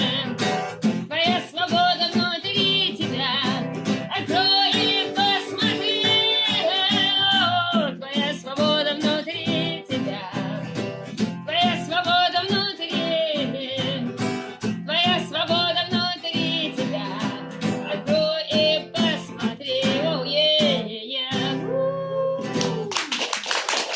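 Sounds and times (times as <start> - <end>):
person singing: 0.0 - 22.9
acoustic guitar: 0.0 - 23.2.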